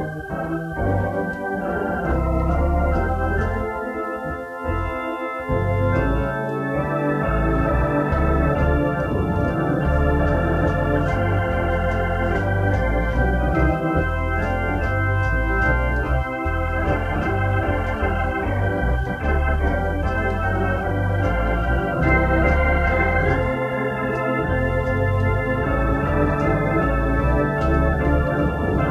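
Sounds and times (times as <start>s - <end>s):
organ music: 0.0s - 28.9s.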